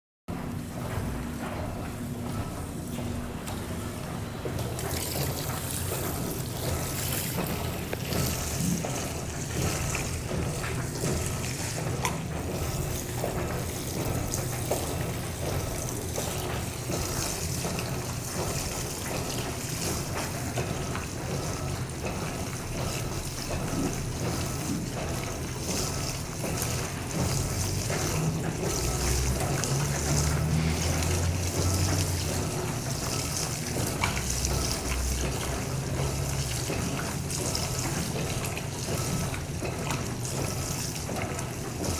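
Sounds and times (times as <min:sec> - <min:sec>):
low washing machine hum: 0:00.3 - 0:41.9
water running and splashing: 0:03.5 - 0:41.9.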